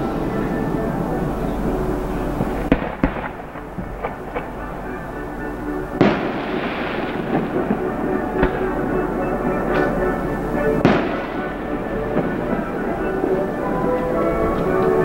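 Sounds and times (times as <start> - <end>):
fireworks bangs: 1.5 - 15.0.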